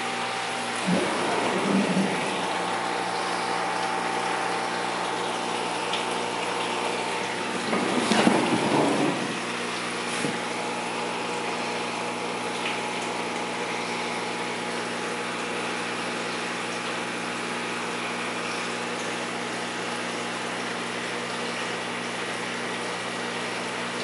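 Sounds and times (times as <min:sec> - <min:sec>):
aquarium filter pump humming: 0:00.0 - 0:24.0
water rushing through pump: 0:00.0 - 0:24.0.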